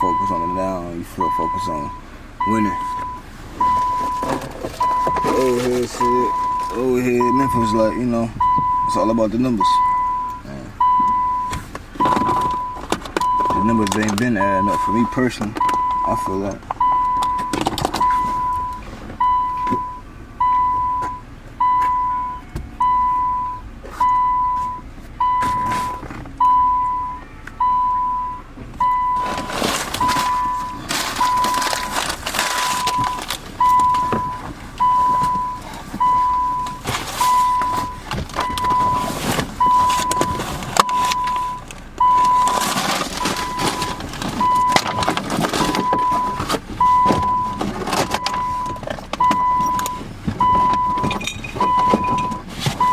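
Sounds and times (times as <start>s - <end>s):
electronic warning beep: 0.0s - 52.9s.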